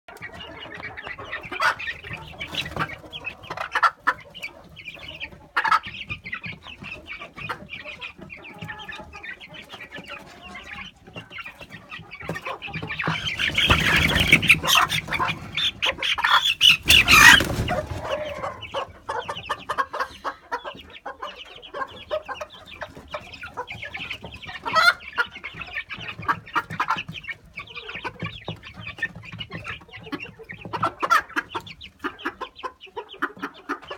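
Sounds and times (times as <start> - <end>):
chickens clucking: 0.1 - 33.9.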